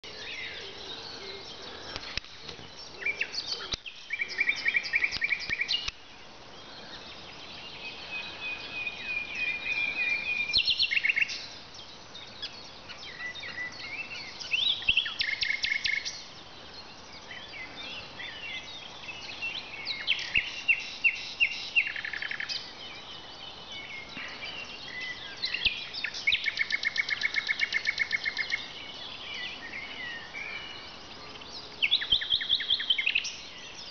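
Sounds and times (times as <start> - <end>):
nightingale singing: 0.0 - 33.9.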